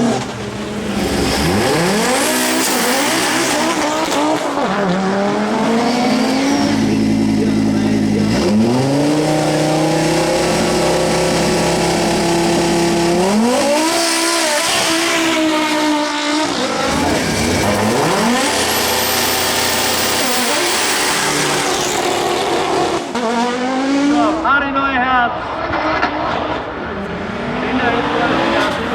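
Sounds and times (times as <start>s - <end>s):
race car engine accelerating: 0.0s - 24.5s, 25.3s - 28.9s.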